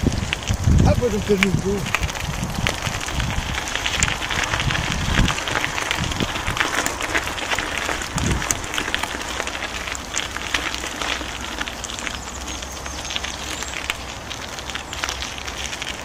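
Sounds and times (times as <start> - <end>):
bike tyres rolling on gravel: 0.0 - 16.0
wind rumble on microphone: 0.0 - 16.0.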